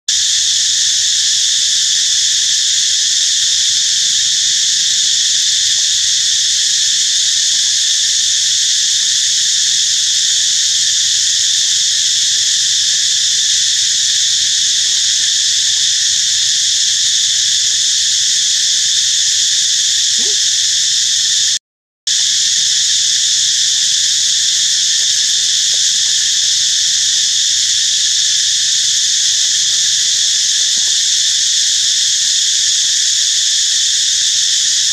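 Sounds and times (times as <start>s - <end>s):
insect chorus drone: 0.1s - 34.9s.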